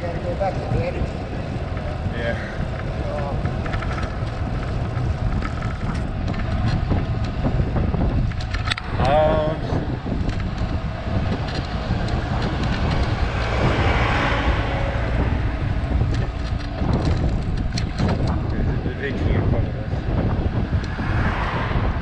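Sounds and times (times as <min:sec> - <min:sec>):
passing vehicle rush: 0:00.0 - 0:22.0
road noise: 0:00.0 - 0:22.0
wind buffeting microphone: 0:00.0 - 0:22.0.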